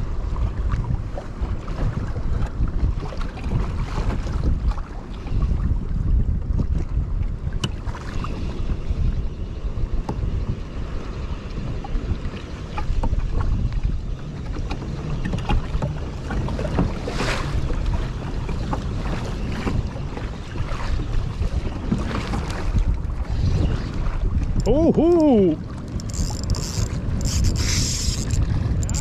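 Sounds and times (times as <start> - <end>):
water lapping against hull: 0.0 - 29.0
wind buffeting microphone: 0.0 - 29.0.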